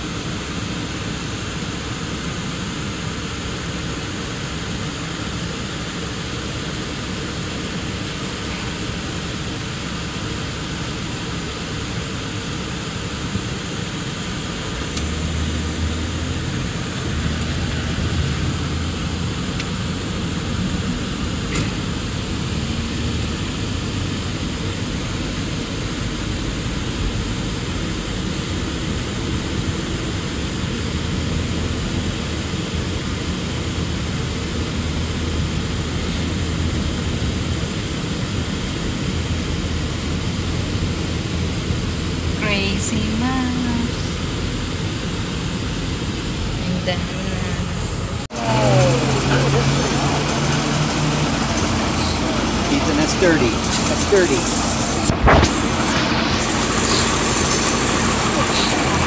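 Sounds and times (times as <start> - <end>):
car engine and road noise: 0.0 - 59.0
car engine droning: 0.0 - 59.0.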